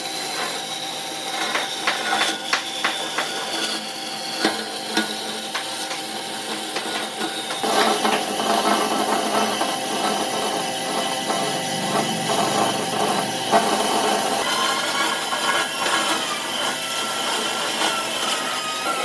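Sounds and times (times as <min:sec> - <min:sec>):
power tool cutting wood: 0:00.0 - 0:19.0.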